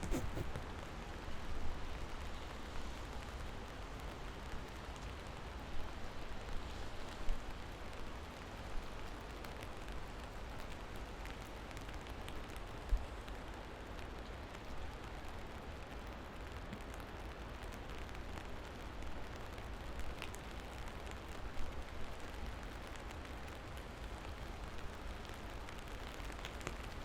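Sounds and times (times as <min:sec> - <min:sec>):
rain falling: 0:00.6 - 0:27.0.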